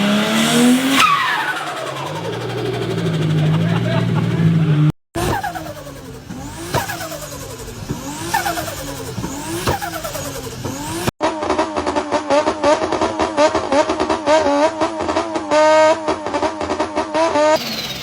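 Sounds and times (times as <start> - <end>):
turbocharged car engine revving: 0.0 - 18.0.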